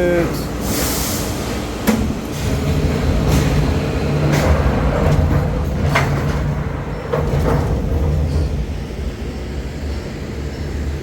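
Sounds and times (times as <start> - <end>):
cable car low rumble: 0.0 - 11.0.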